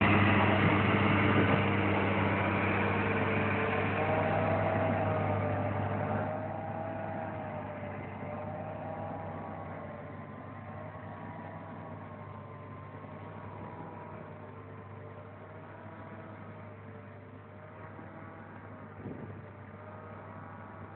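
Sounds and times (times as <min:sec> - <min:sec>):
grape harvester engine hum: 0:00.0 - 0:20.9.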